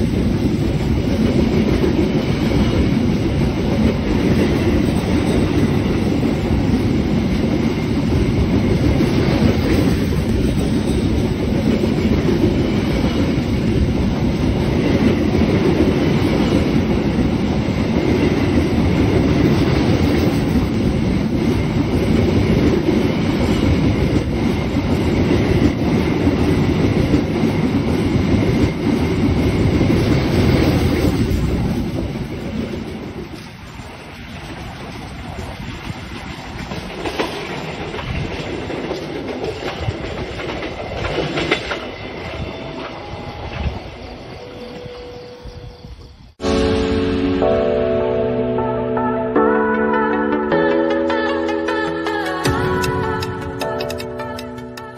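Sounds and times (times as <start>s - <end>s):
train wheels clacking on rails: 0.0s - 44.1s.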